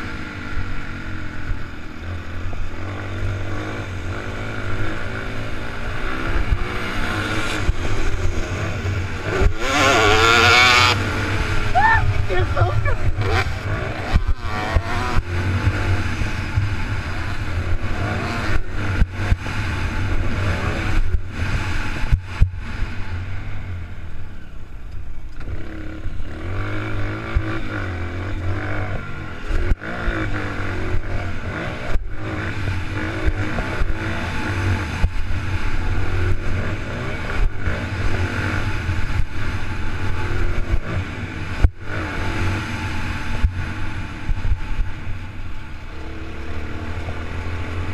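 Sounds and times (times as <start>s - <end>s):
dirt bike engine revving: 0.0s - 23.8s, 25.4s - 47.9s.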